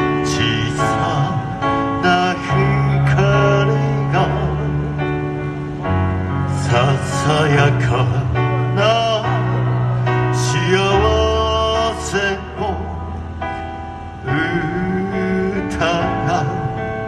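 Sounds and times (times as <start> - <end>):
person singing: 0.0 - 5.1, 6.5 - 13.2, 14.2 - 17.0.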